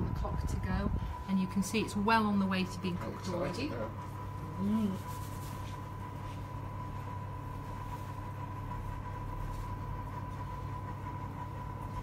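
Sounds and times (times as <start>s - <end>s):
oven fans humming: 0.0s - 12.0s.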